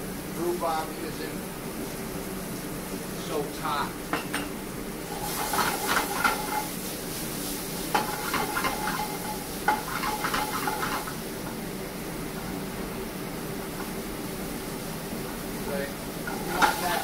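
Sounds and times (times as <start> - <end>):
food rattling and sizzling: 1.6 - 17.0.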